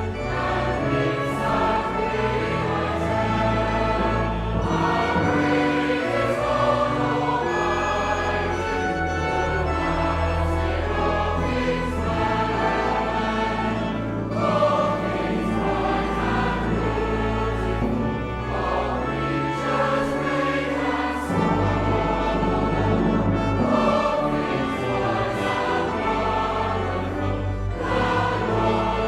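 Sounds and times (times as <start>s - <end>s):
choir singing held chords: 0.0s - 29.0s.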